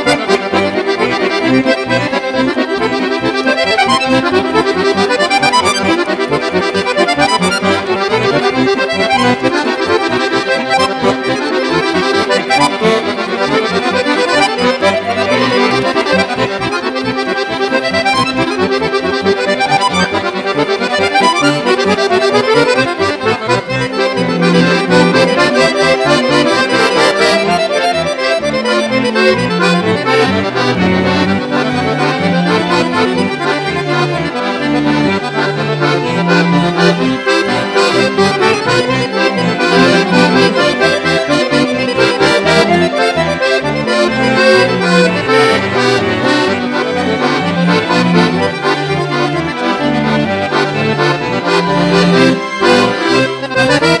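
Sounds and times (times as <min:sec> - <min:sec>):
button accordions playing: 0:00.0 - 0:54.0
string quartet: 0:00.0 - 0:54.0.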